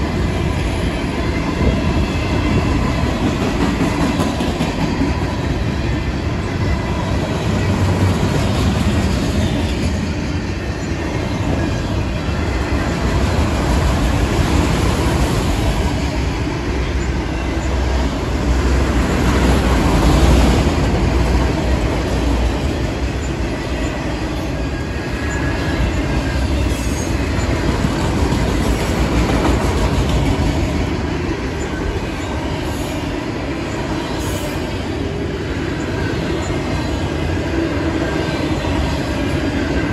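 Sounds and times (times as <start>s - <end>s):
freight cars rumbling over rails: 0.0s - 39.9s.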